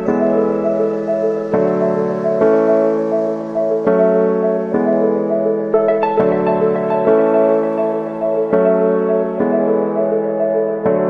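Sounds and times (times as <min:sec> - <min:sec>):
gentle repeating melody: 0:00.0 - 0:11.0
soft keyboard chords: 0:00.0 - 0:11.0.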